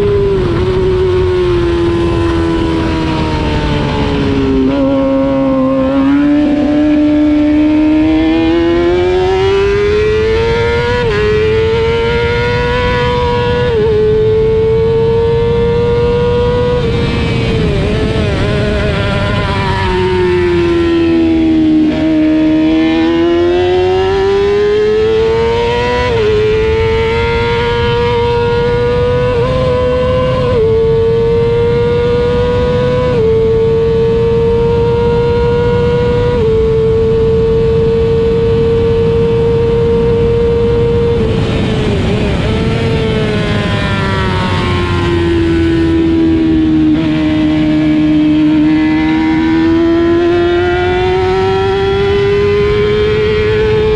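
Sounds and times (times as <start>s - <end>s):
racing motorcycle engine: 0.0s - 53.9s.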